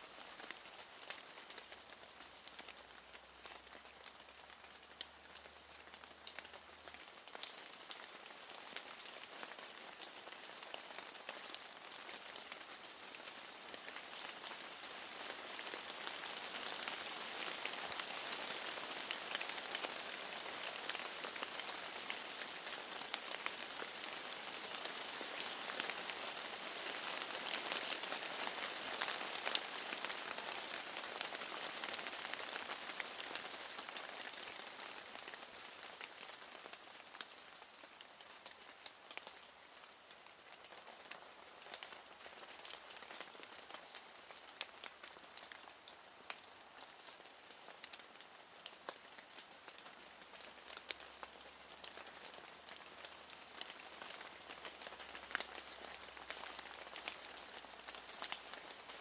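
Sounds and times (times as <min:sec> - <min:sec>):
rain tapping on a window: 0:00.1 - 0:59.0.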